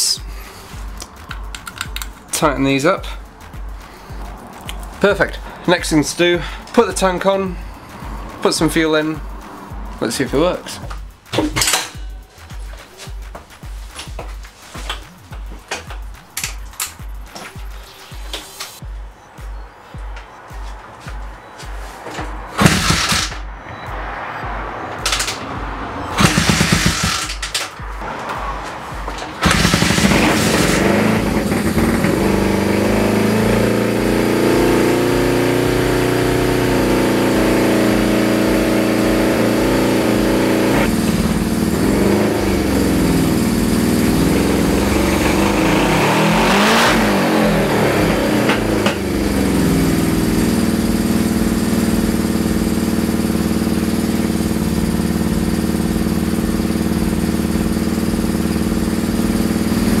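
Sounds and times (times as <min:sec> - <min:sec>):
motorcycle engine revving and idling: 0:00.2 - 0:12.8, 0:22.5 - 1:00.0.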